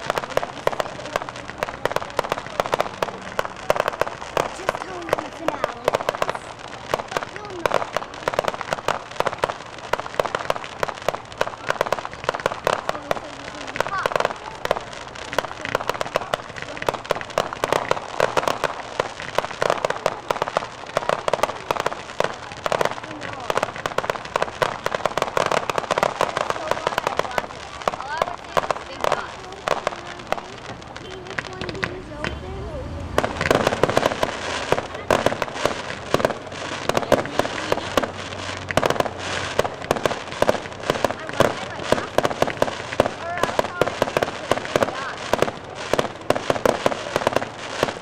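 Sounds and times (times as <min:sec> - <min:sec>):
fireworks banging and popping: 0:00.0 - 0:48.0.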